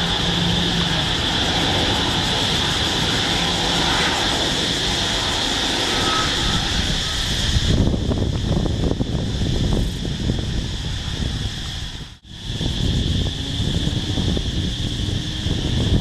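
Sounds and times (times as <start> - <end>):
jet engines whining: 0.0 - 16.0
rushing noise: 0.0 - 16.0.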